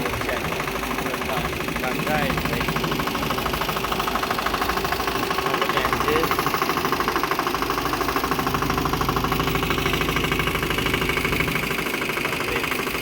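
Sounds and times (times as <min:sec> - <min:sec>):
motorboat engine chugging: 0:00.0 - 0:13.0.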